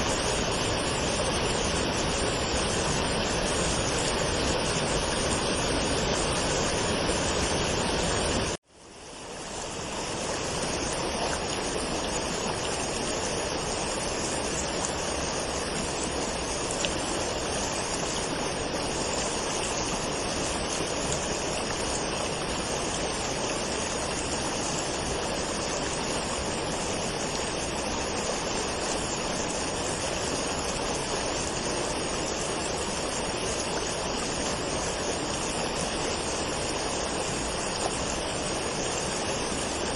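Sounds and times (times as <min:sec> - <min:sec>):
waterfall rushing: 0:00.0 - 0:08.6, 0:09.2 - 0:39.9.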